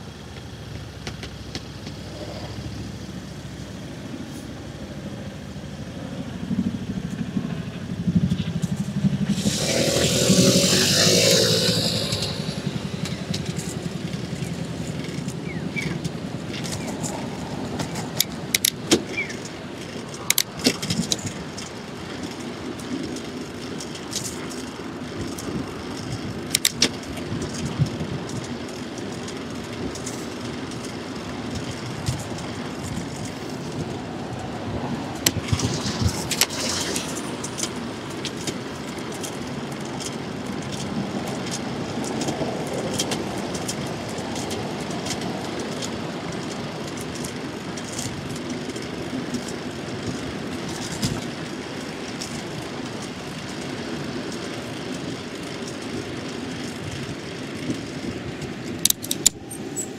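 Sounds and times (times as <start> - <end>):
bicycle rattling and clicking: 0.0 - 59.9
road and wind rush: 0.0 - 59.9.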